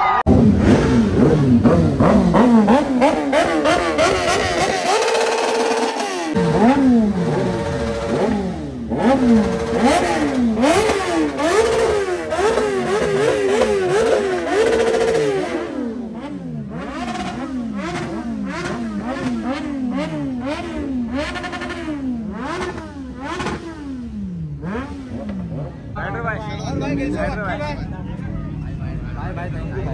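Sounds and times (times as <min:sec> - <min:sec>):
motorcycle engine revving: 0:00.2 - 0:27.2.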